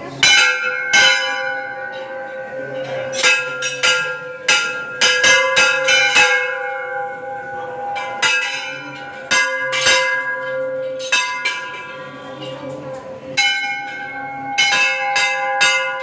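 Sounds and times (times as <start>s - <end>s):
temple bells ringing: 0.0s - 16.0s.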